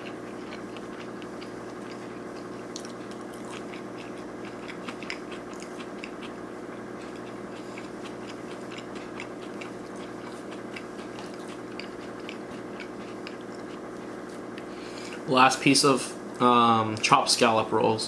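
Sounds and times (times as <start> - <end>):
wet mouth chewing clicks: 0.0 - 15.2
steady low hum: 0.0 - 18.0.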